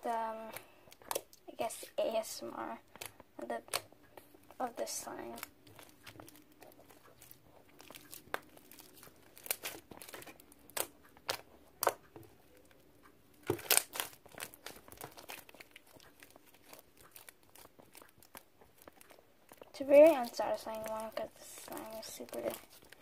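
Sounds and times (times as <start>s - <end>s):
sticky slime crackling and popping: 0.0s - 23.0s.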